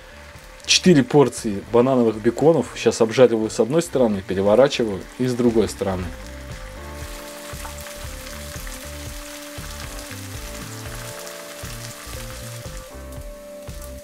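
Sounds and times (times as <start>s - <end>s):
background music with low notes: 0.0s - 14.0s
food sizzling in hot oil: 0.0s - 14.0s.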